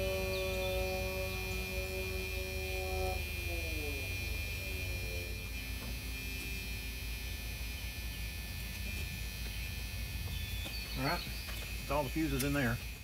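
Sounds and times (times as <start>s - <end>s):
dashboard warning buzzer: 0.0s - 13.0s.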